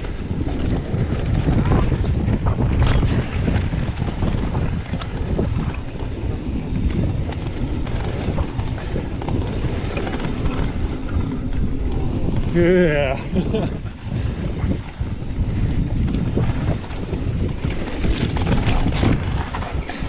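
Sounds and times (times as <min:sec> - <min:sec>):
bike clicks and rattles: 0:00.0 - 0:20.0
bike tyres rumbling on dirt trail: 0:00.0 - 0:20.0
wind buffeting microphone: 0:00.0 - 0:20.0.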